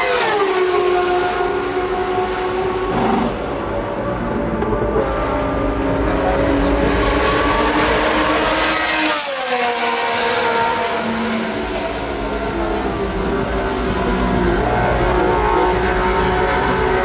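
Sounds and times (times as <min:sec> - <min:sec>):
race car engine passing at speed: 0:00.0 - 0:17.0.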